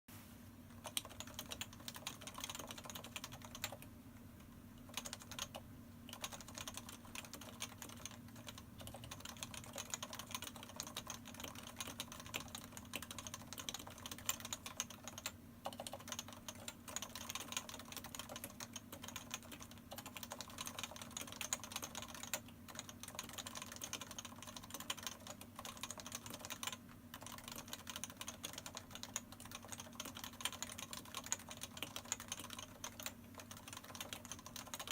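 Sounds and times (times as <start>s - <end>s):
fast keyboard typing: 0.7s - 3.9s, 4.8s - 34.9s.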